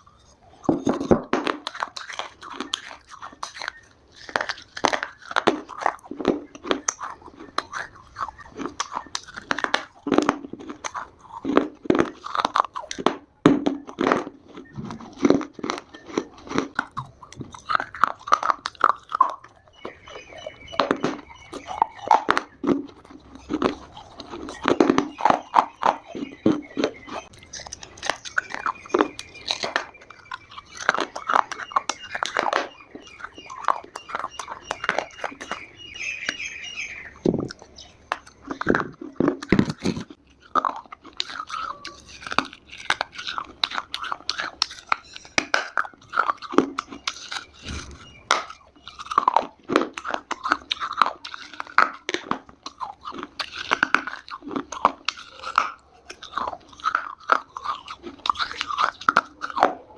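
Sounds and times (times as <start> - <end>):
chewing brittle clay chunks: 0.0 - 59.9.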